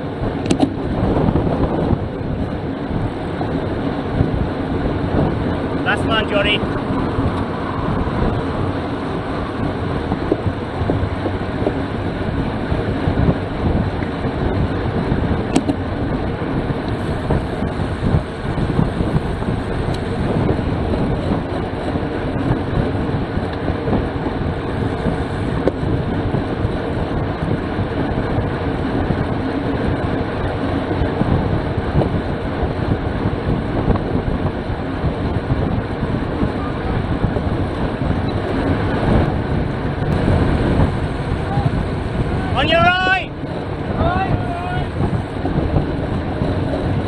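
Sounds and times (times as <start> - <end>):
bicycle tyres on tarmac: 0.0 - 47.0
wind rushing: 0.0 - 47.0.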